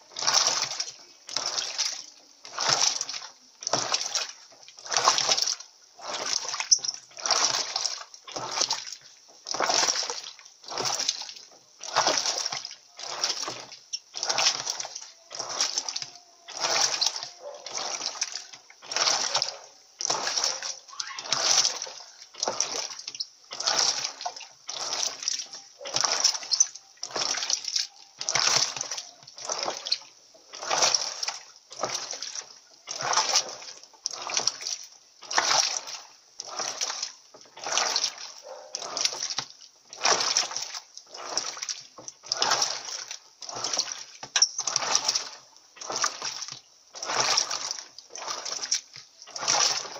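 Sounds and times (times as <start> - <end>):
washing machine sloshing: 0.0 - 49.9.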